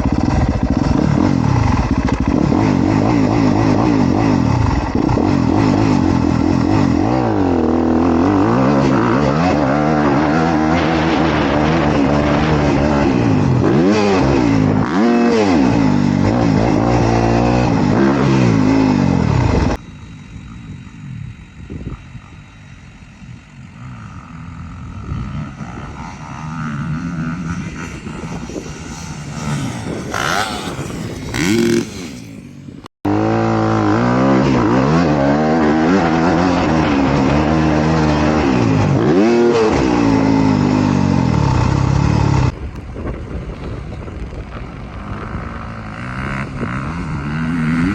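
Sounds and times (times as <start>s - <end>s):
dirt bike engine revving: 0.0s - 42.6s, 44.8s - 47.9s
distant engine: 0.0s - 47.9s.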